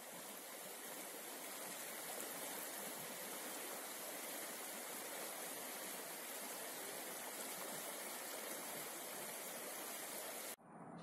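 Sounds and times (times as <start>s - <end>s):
river rushing over stones: 0.0s - 10.6s.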